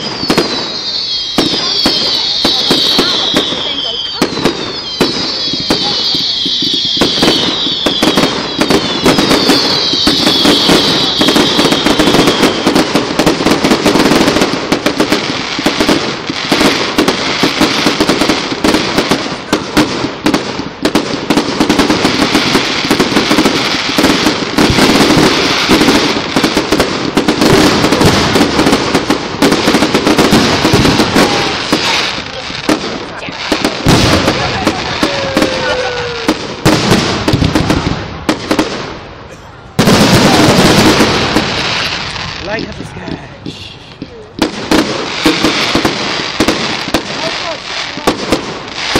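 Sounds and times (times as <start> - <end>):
firework bangs and crackling: 0.0 - 48.9
whistling fireworks: 0.0 - 48.9.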